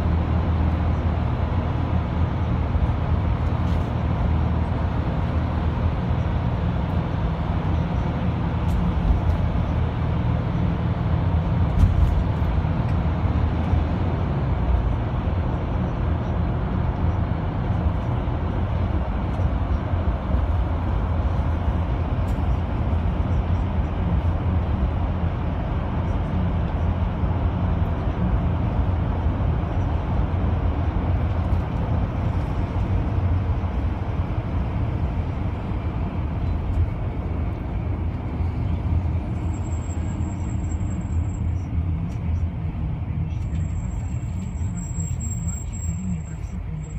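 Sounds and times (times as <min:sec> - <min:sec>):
vehicle engine and tyre rumble: 0:00.0 - 0:46.9.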